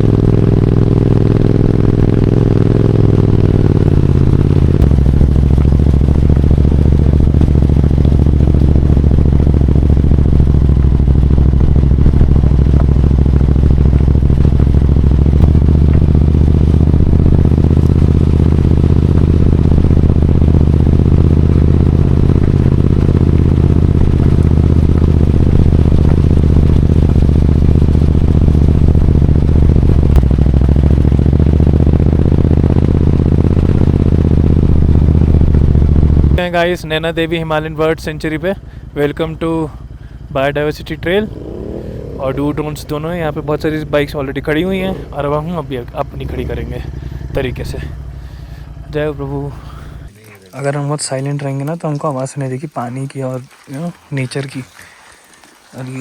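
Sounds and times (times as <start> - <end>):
motorcycle engine running steadily: 0.0 - 50.2.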